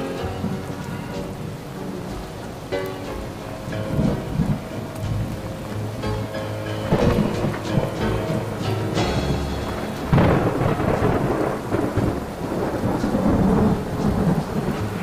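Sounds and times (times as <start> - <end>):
loud thunder crack: 0.0 - 15.0
steady rain: 0.0 - 15.0
thunder rumbling: 0.0 - 15.0.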